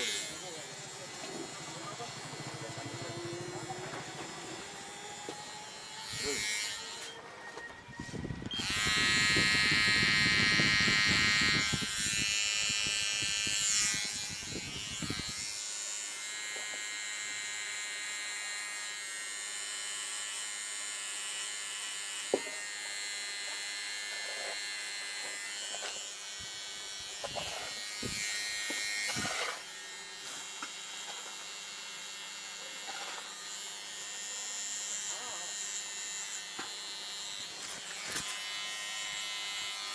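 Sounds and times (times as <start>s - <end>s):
electric hair trimmer buzzing: 0.0s - 7.2s, 8.3s - 39.9s.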